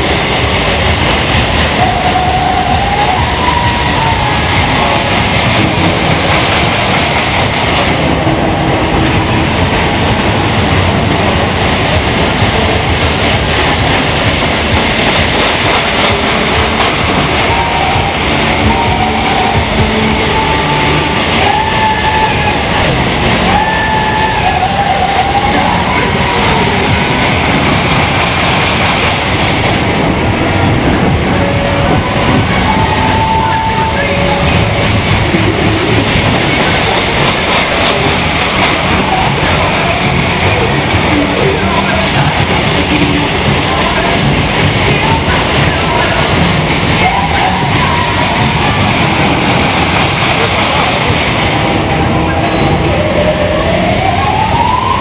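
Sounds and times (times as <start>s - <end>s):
thrill ride rumbling: 0.0s - 55.0s.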